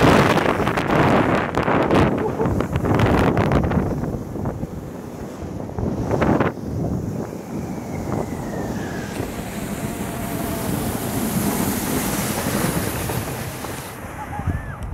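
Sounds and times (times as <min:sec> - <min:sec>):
tube hissing over snow: 0:00.0 - 0:14.8
wind on microphone: 0:00.0 - 0:14.9.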